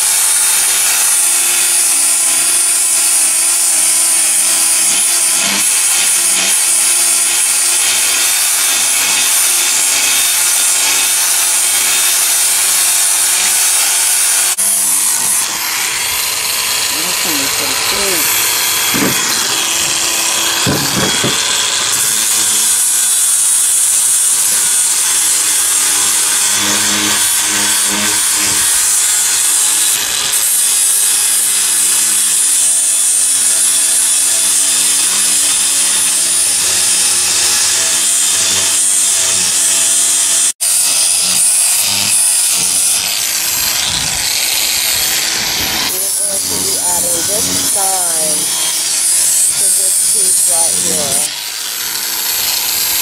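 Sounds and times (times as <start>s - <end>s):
angle grinder grinding wood: 0.0s - 53.0s.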